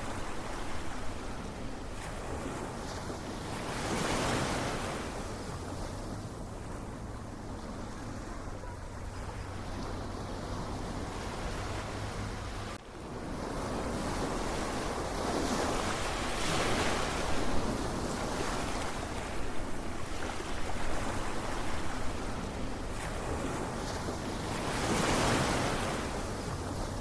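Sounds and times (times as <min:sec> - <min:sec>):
ocean waves washing in: 0:00.0 - 0:27.0.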